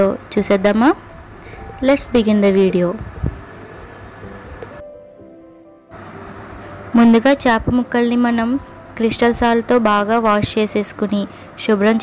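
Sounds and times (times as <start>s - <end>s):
soft sustained background music: 0.0s - 12.0s.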